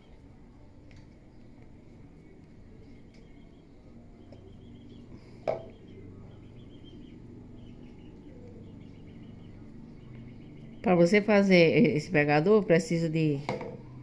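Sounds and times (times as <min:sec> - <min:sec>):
faint bird chirps: 0:00.0 - 0:11.3
low hum: 0:00.0 - 0:14.0.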